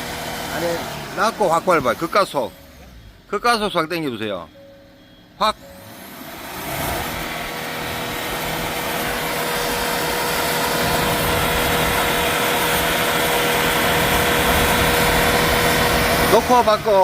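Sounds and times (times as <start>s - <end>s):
diesel engine at high revs: 0.0s - 3.8s, 5.2s - 17.0s.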